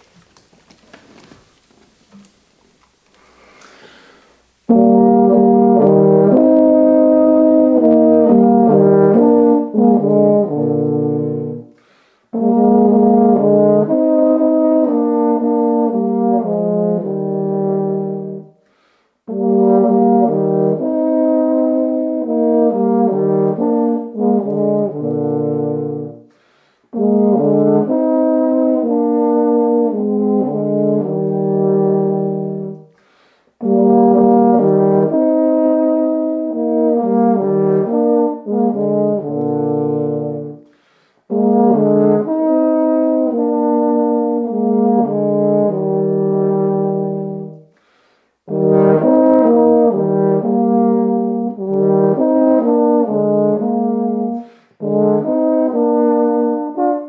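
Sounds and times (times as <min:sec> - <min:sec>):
tenor horns playing a duet: 0:04.4 - 0:18.7, 0:19.3 - 0:57.0.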